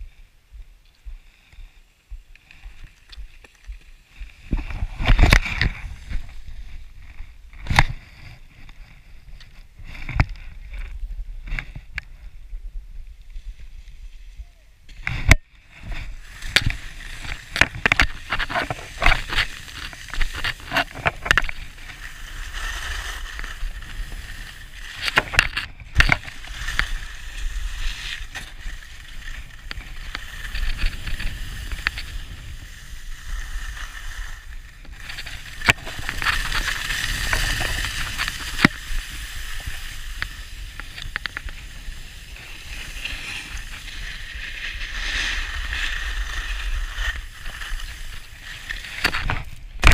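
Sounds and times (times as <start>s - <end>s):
ski edges scraping over snow: 1.3s - 12.5s, 13.1s - 49.9s.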